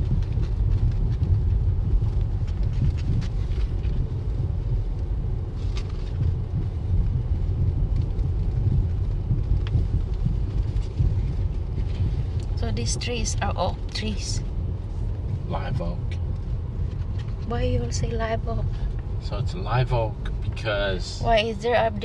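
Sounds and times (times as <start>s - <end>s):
tyres rumbling on dirt road: 0.0s - 22.0s.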